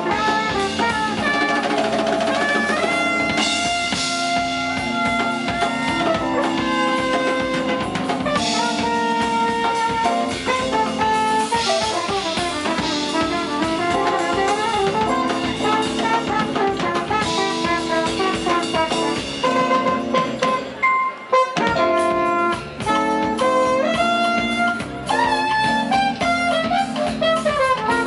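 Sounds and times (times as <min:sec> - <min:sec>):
electric bass: 0:00.0 - 0:20.8, 0:21.6 - 0:28.0
drum kit beat: 0:00.0 - 0:28.0
trumpet playing: 0:00.0 - 0:28.0.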